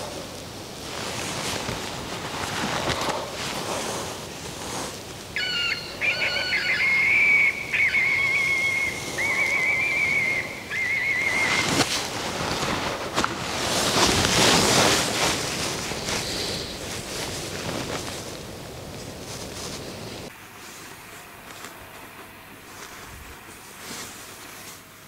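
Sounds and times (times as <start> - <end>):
wind on microphone: 0.0 - 20.3.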